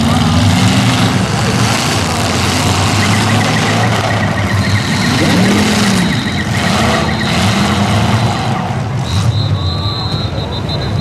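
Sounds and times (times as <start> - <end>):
engine revving: 0.0 - 9.4
loud car engines running: 0.0 - 11.0.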